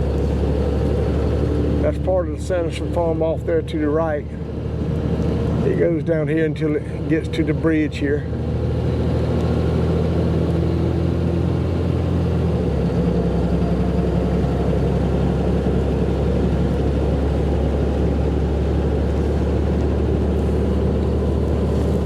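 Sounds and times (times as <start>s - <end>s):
dump truck engine running: 0.0s - 22.0s.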